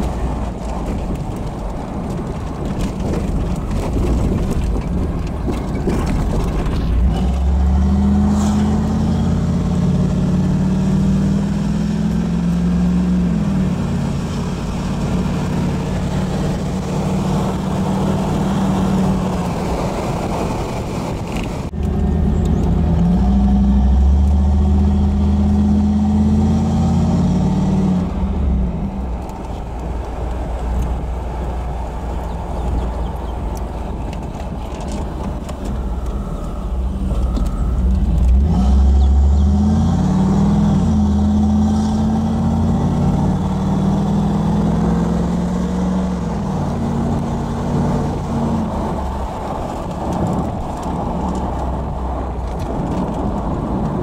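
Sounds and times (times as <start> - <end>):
car engine drone: 0.0 - 54.0
road noise: 0.0 - 54.0.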